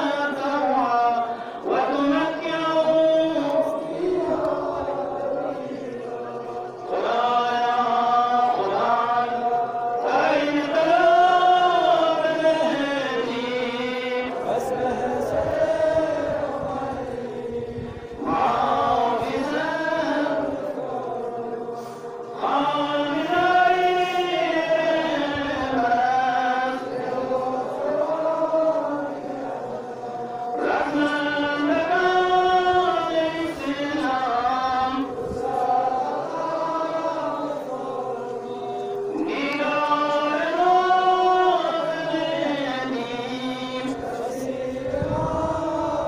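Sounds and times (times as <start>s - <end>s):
men chanting a lament: 0.0s - 46.0s.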